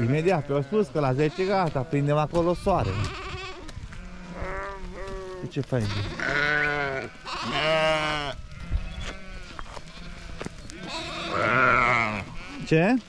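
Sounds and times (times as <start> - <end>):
sheep bleating: 0.0 - 13.0.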